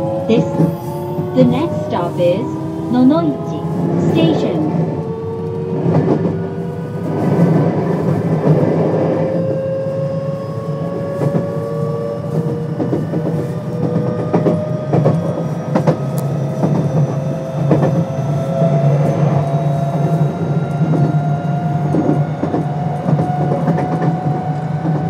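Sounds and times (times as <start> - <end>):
low train running rumble: 0.0 - 25.0.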